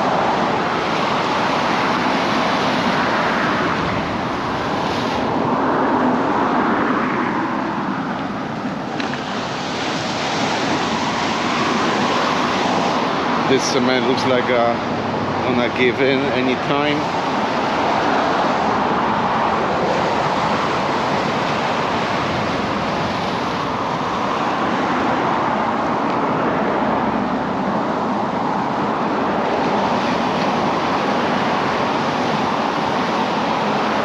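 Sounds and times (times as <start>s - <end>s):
ocean surf rushing: 0.0s - 34.0s.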